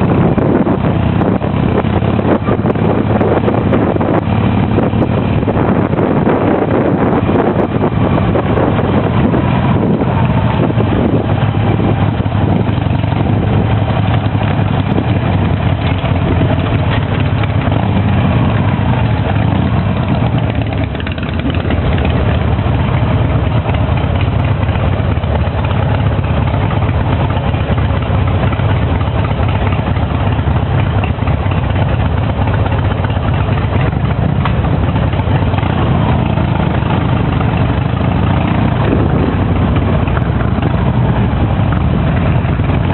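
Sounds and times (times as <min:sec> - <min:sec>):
motorcycle engine running at low revs: 0:00.0 - 0:42.9.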